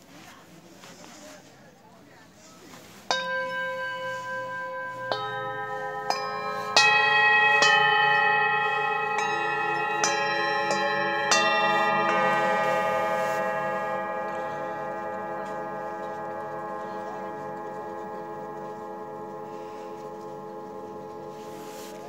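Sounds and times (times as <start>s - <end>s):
singing bowls ringing: 2.9s - 22.0s.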